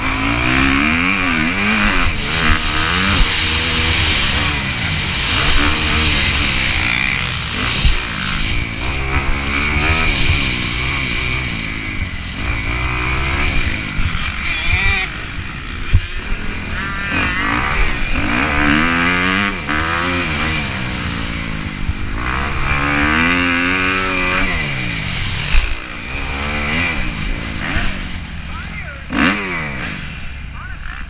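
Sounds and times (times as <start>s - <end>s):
motorbike engine revving: 0.0s - 31.0s.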